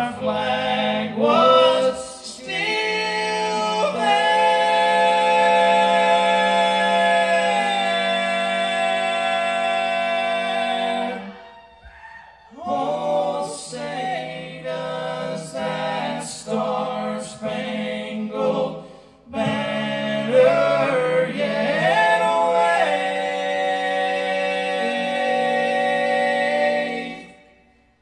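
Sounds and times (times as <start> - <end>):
a cappella group singing in harmony: 0.0 - 28.0.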